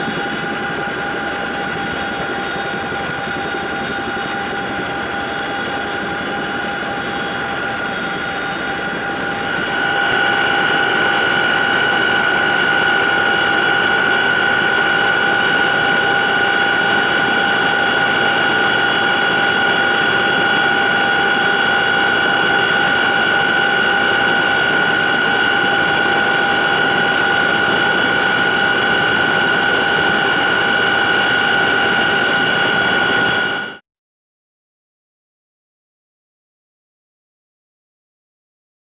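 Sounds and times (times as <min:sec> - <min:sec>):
helicopter turbine whine: 0:00.0 - 0:33.8.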